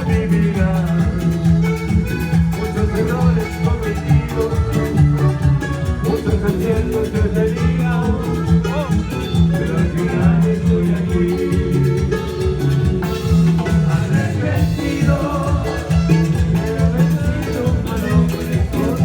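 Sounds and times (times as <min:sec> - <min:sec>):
latin band music with bass: 0:00.0 - 0:19.0.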